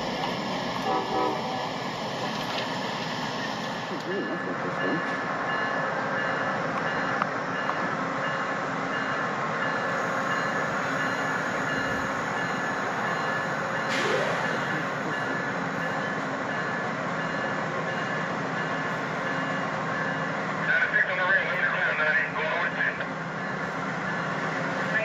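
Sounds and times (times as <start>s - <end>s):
train rushing noise: 0.0s - 25.0s.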